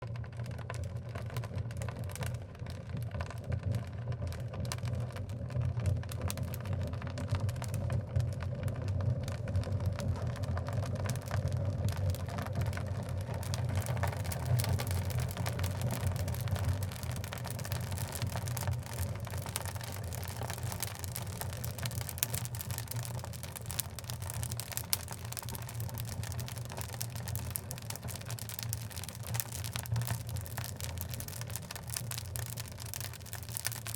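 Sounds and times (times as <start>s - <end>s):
logs burning in fireplace: 0.0s - 33.9s
fire crackling and popping: 0.1s - 33.9s.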